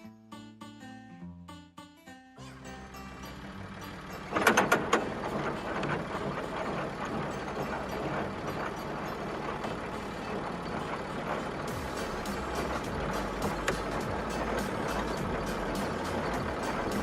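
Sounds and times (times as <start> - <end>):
monster truck engine running: 2.4 - 17.0.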